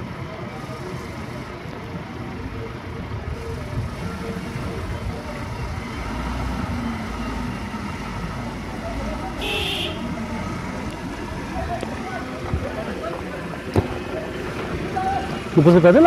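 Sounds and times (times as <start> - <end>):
engine running low rumble: 0.0 - 16.0.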